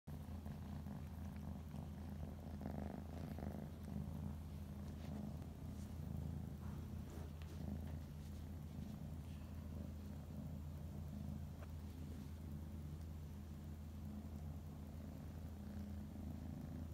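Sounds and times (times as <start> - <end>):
cat purring: 0.1 - 16.9.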